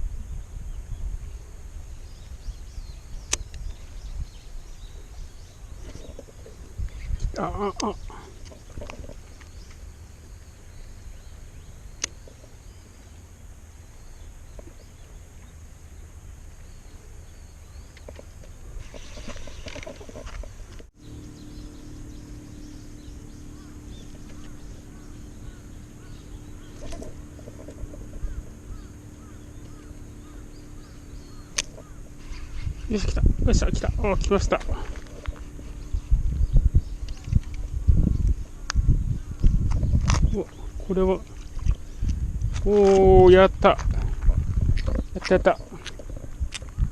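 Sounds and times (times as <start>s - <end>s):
steady low hum: 0.0s - 46.9s
wind rumble on microphone: 0.0s - 46.9s
faint bird calls: 1.3s - 46.9s.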